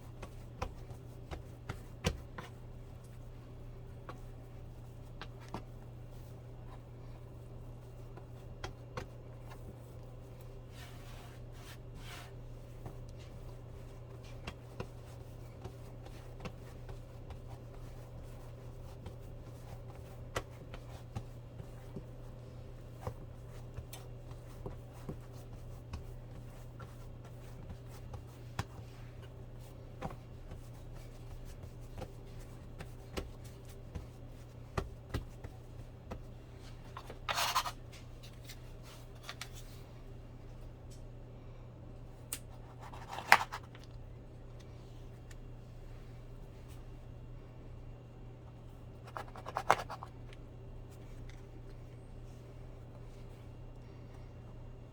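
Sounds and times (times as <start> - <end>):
hands working dough: 0.0 - 41.0, 42.0 - 47.0, 47.8 - 54.9
steady low hum: 0.0 - 54.9.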